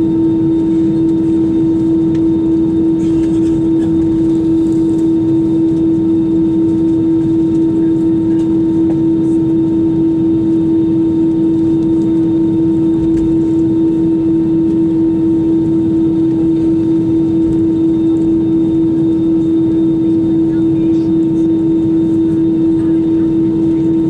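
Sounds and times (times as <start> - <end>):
airplane cabin rumble and hum: 0.0 - 24.0.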